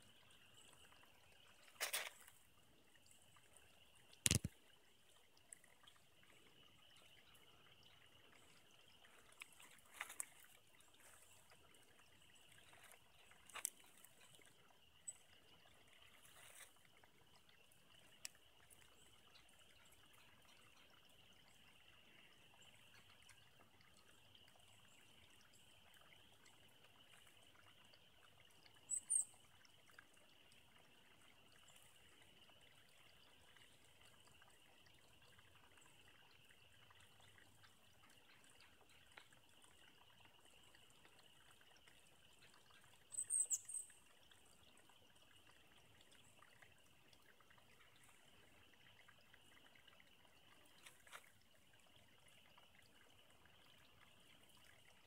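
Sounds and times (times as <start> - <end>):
creek trickling over stones: 0.0 - 55.0.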